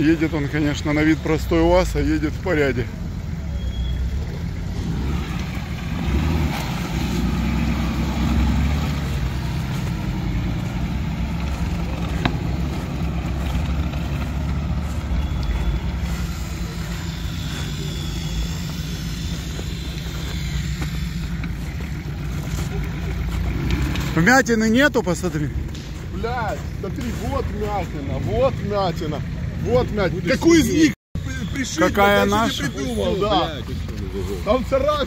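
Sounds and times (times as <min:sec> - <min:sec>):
off-road vehicle engine running: 0:00.0 - 0:35.0.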